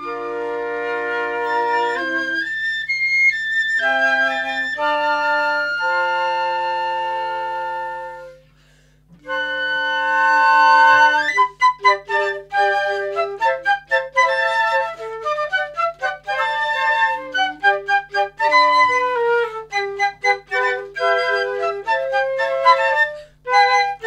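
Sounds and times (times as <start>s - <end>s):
flute quartet playing: 0.0s - 24.0s.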